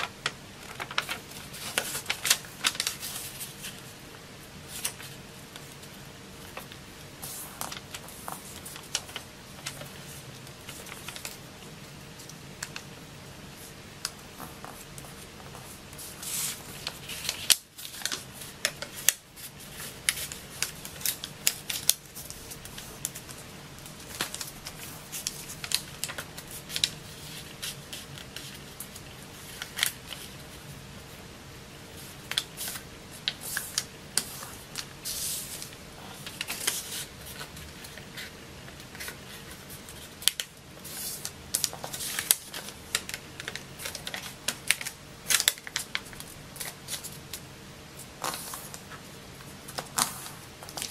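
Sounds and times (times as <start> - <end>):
paper rustling and crackling: 0.0 - 4.0, 4.6 - 11.5, 13.5 - 30.7, 31.9 - 47.4, 48.0 - 50.9.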